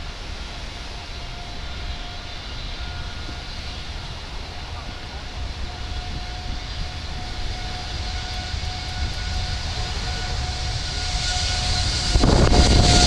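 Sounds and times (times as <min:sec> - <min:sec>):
jet airliner engines rumbling: 0:00.0 - 0:13.0.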